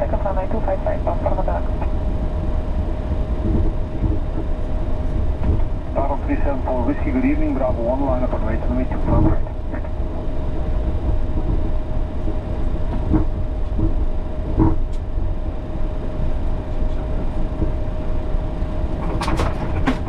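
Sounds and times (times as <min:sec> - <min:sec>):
aircraft taxiing rumble: 0:00.0 - 0:20.0
steady hum: 0:00.0 - 0:20.0.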